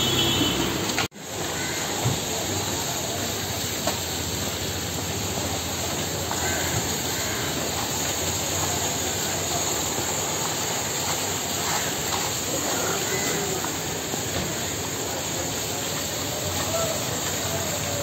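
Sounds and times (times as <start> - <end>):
hissing street noise: 0.0 - 18.0
faint voices: 1.6 - 18.0.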